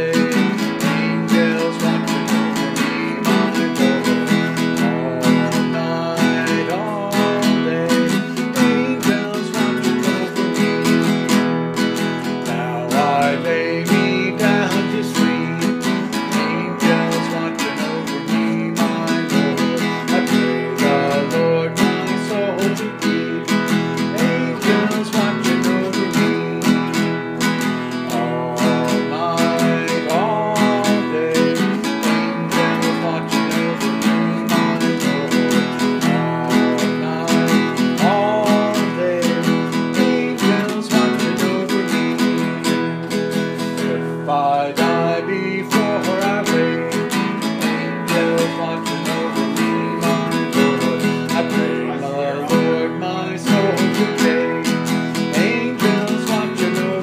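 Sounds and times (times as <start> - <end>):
classical guitar strummed: 0.0 - 57.0.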